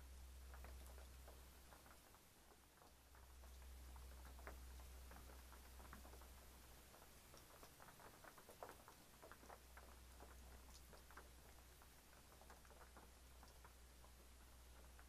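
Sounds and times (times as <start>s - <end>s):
light rain patter: 0.0s - 15.0s.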